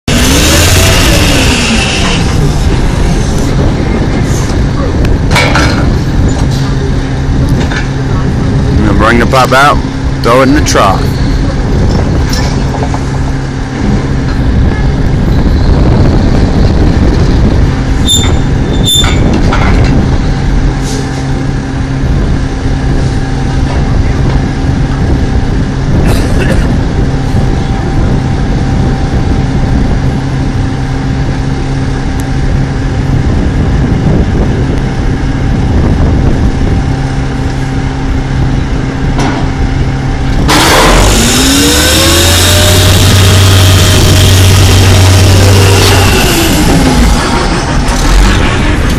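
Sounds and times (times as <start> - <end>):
drilling rig machinery drone: 0.0 - 48.9.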